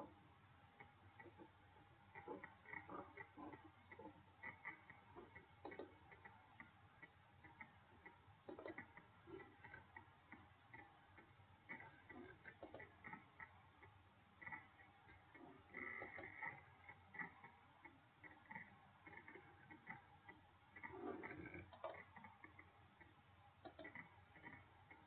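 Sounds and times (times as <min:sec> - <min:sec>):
low hiss: 0:00.0 - 0:25.0.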